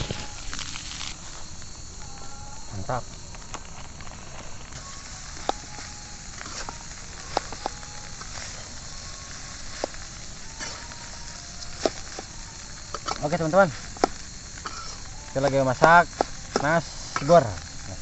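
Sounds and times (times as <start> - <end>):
rice sizzling in a wok: 0.0 - 18.0.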